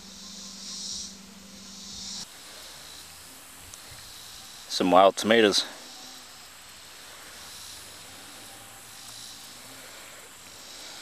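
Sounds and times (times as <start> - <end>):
faint high-pitched swells: 0.0 - 11.0
outdoor background hiss: 0.0 - 11.0.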